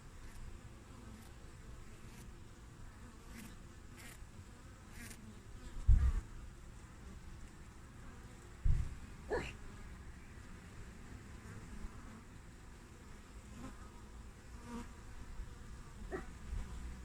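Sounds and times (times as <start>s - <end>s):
bee buzzing close by: 0.0s - 17.0s
bees buzzing at hive: 0.0s - 17.0s.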